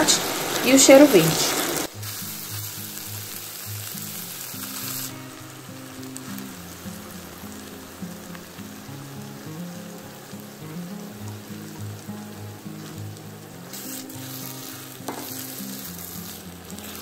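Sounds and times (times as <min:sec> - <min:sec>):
background music: 0:00.0 - 0:17.0
meat sizzling in a frying pan: 0:00.0 - 0:17.0.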